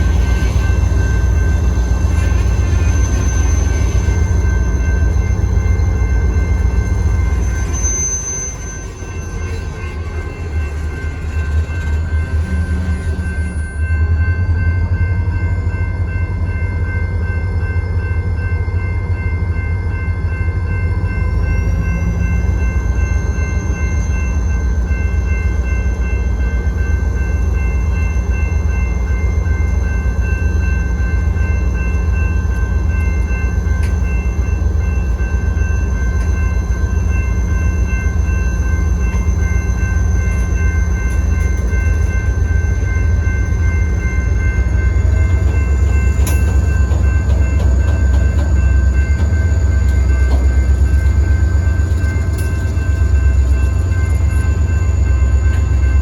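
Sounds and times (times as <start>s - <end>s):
freight train rumbling by: 0.0s - 56.0s
steady high-pitched tones: 0.0s - 56.0s.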